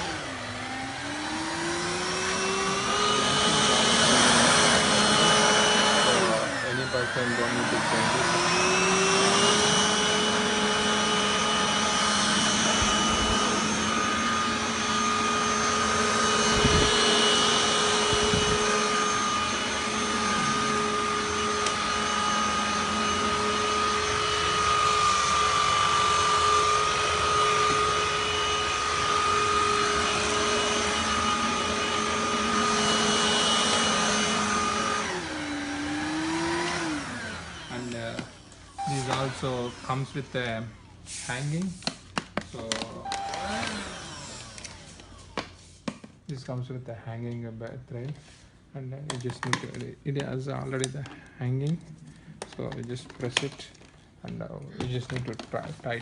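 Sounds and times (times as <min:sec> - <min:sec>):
stick vacuum cleaner whine: 0:00.0 - 0:46.7, 0:49.0 - 0:56.0.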